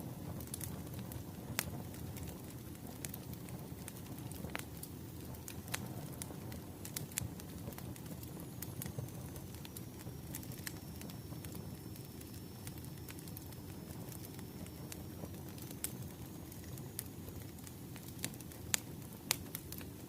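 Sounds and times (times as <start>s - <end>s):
wood fire crackling: 0.0s - 20.0s
sharp pops of burning logs: 0.4s - 20.0s.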